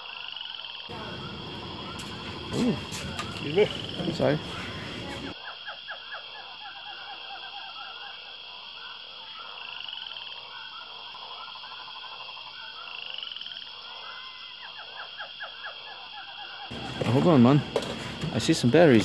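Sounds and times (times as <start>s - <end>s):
chattering chorus of chirps: 0.8s - 19.0s.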